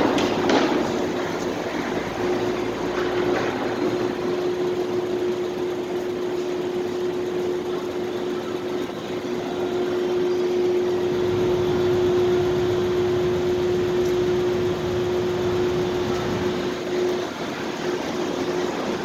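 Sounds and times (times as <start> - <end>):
constant drone tone: 0.0 - 19.0
machine hum and hiss: 0.0 - 19.0.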